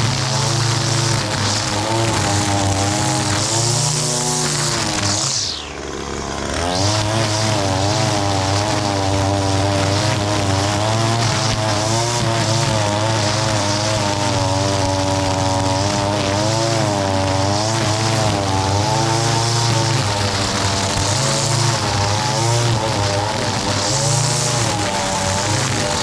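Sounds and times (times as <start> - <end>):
string trimmer cutting grass: 0.0 - 26.0.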